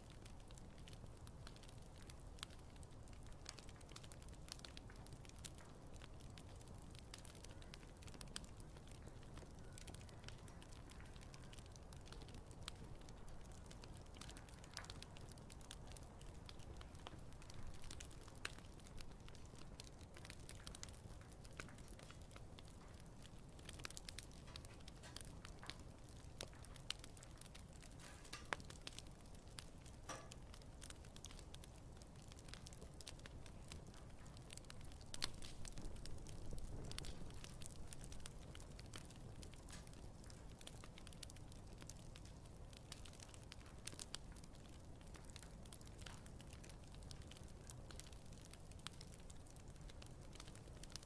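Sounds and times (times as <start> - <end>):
burning wood crackling and popping: 0.0 - 51.0
low rumble of flames: 0.0 - 51.0.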